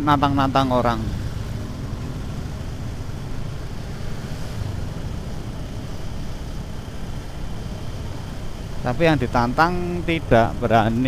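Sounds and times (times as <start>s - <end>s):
motorcycle rumbling along road: 0.0s - 11.0s.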